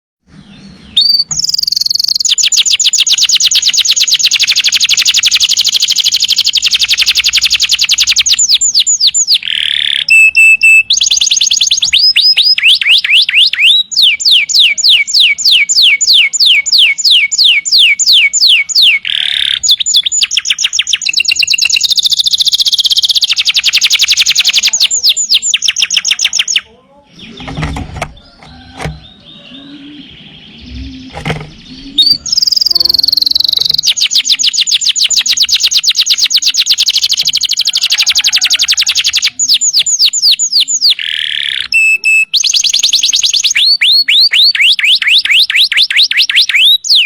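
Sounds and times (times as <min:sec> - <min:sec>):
canary singing trills: 0:00.2 - 0:47.0.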